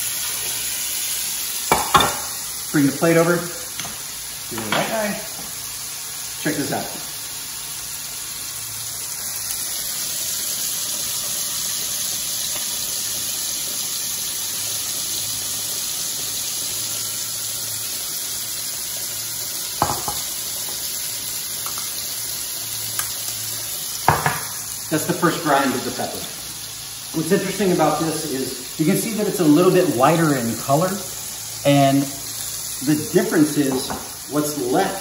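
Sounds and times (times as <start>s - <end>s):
meatballs sizzling in oil: 0.0s - 35.0s.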